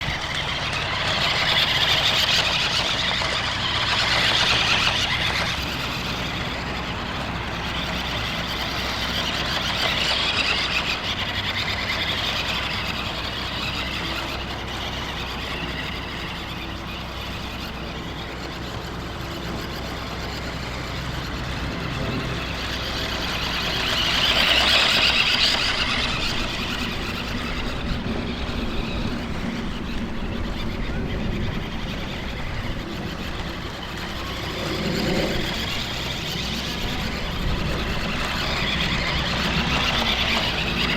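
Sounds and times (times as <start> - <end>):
toy truck electric motor whirring: 0.0 - 40.9.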